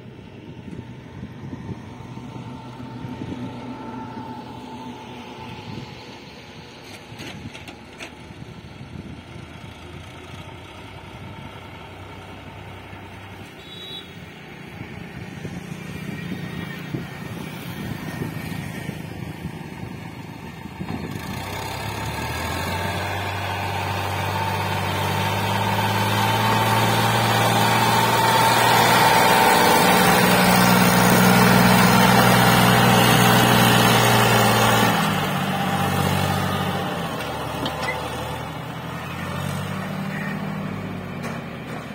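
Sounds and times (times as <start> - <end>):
diesel tractor engine droning: 0.0 - 41.9.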